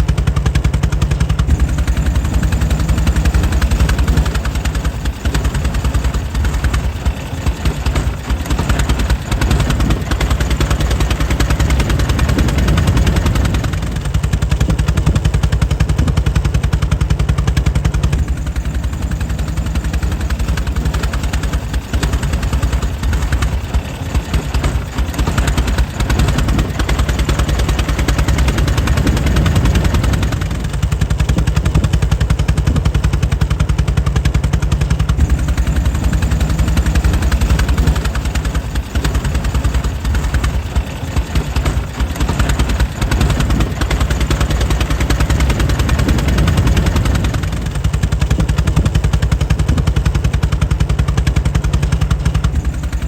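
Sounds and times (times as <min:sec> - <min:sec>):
air-cooled engine running: 0:00.0 - 0:53.0.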